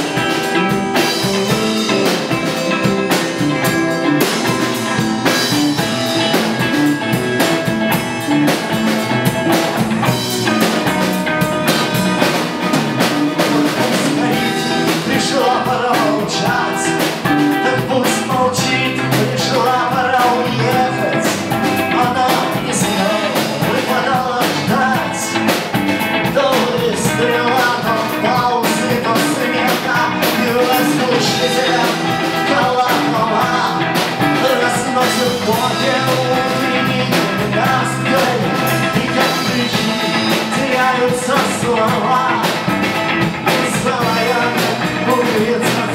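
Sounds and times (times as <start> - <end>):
rock band music: 0.0 - 45.9.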